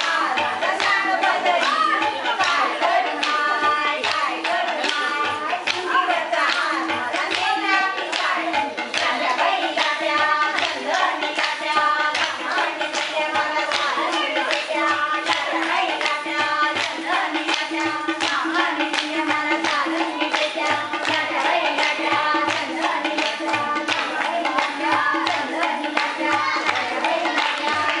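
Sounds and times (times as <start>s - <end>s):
drum beat: 0.0s - 28.0s
fast rhythmic hand clapping: 0.0s - 28.0s
women singing: 0.0s - 28.0s.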